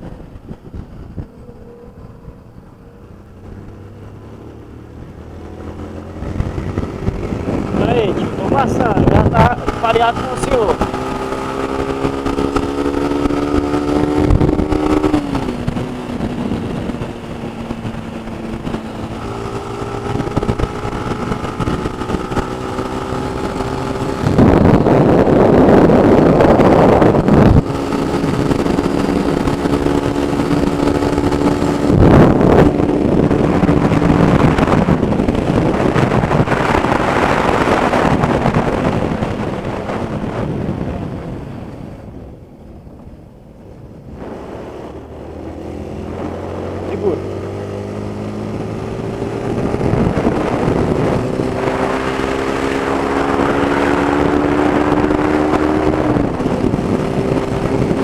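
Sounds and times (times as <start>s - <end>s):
motorcycle engine cruising: 0.0s - 58.0s
wind buffeting microphone: 0.0s - 58.0s.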